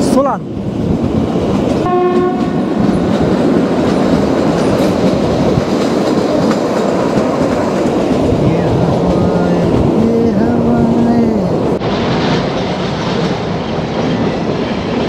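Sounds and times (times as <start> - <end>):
train coach rumbling on rails: 0.0 - 15.0.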